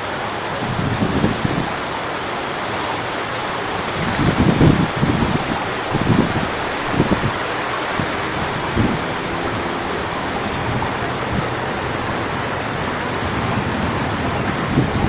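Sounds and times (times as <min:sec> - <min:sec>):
wind through palm fronds: 0:00.0 - 0:15.0
wind buffeting microphone: 0:00.3 - 0:15.0.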